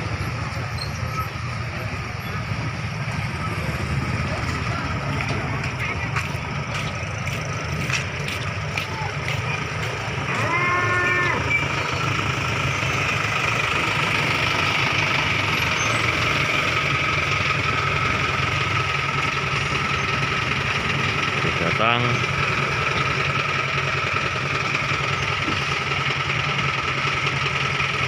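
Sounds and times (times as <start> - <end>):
vehicle engines running: 0.0 - 28.0.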